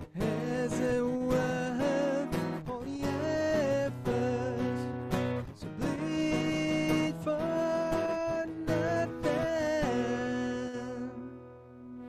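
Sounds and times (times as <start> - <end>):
acoustic guitar chords: 0.0 - 12.0
man singing: 0.0 - 12.0.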